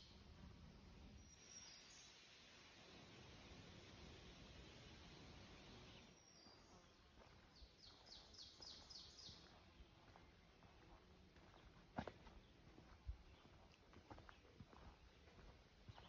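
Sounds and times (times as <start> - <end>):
faint background hiss: 0.0 - 16.0
songbird singing: 0.0 - 16.0.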